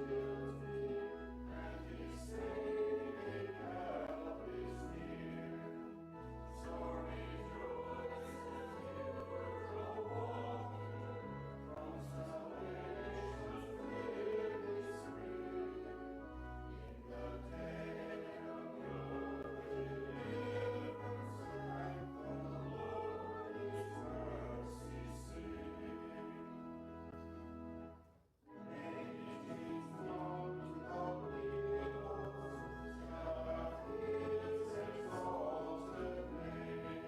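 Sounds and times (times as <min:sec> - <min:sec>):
choir singing: 0:00.0 - 0:27.2, 0:28.5 - 0:37.0
low organ bass notes: 0:00.0 - 0:37.0.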